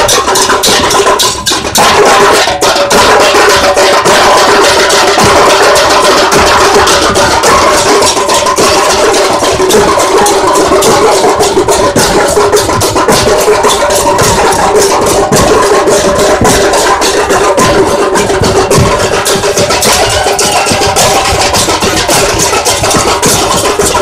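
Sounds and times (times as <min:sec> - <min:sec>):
large drums beaten fast: 0:00.0 - 0:24.0.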